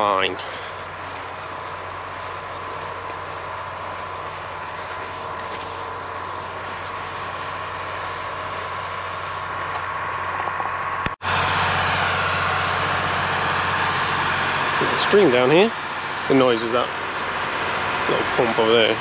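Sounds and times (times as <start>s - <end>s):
water pump running: 0.0s - 19.0s.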